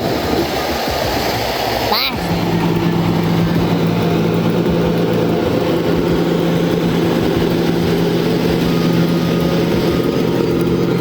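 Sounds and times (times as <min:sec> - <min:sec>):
heavy vehicle engine droning: 0:00.0 - 0:11.0.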